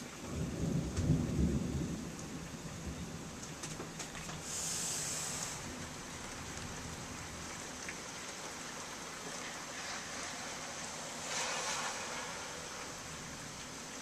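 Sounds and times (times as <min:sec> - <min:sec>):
heavy rain downpour: 0:00.0 - 0:14.0.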